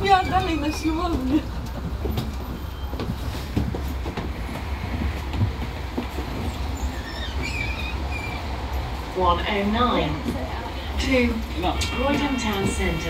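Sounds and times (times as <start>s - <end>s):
bus interior rumble: 0.0s - 13.0s
vehicle rattles and clicks: 0.0s - 13.0s.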